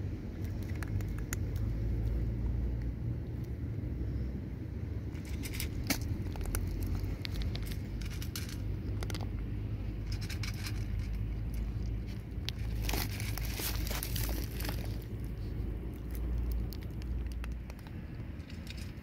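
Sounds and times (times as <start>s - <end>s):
steady low rumble: 0.0s - 19.0s
cat crunching dry kibble: 0.2s - 2.2s, 5.1s - 19.0s.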